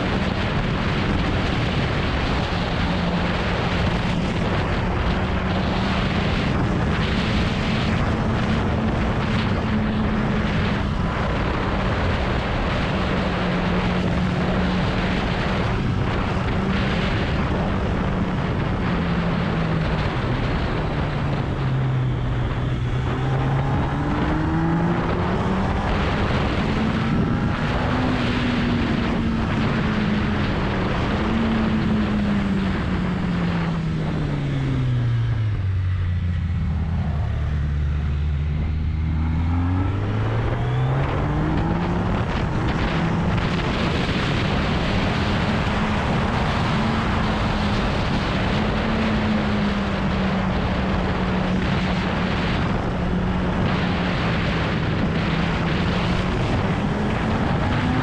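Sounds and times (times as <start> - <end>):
motorcycle engine: 0.0 - 58.0
wind rush on microphone: 0.0 - 58.0.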